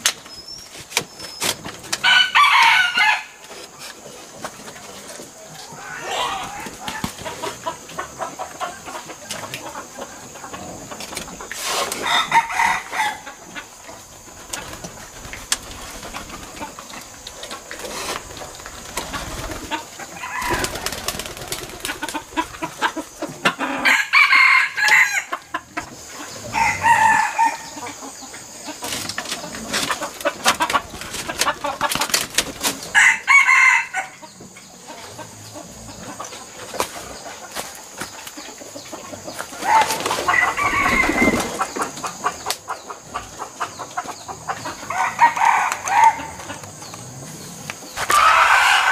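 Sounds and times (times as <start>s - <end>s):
chickens calling: 0.0s - 48.9s.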